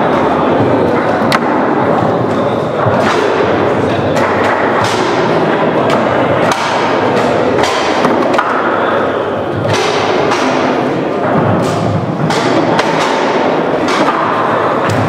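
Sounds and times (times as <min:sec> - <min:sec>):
foosball ball cracking: 0:02.8 - 0:15.0.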